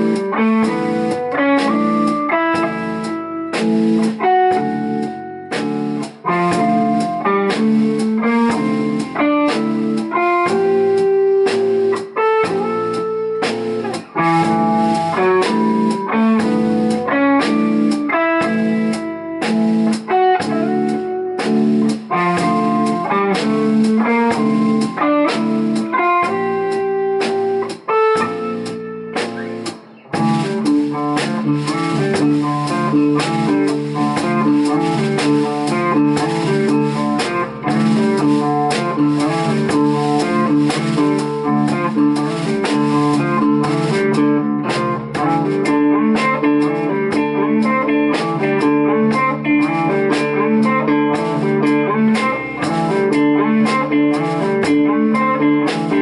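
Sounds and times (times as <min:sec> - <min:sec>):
electric guitar phrases: 0:00.0 - 0:56.0
rock band playing a groove: 0:00.0 - 0:56.0.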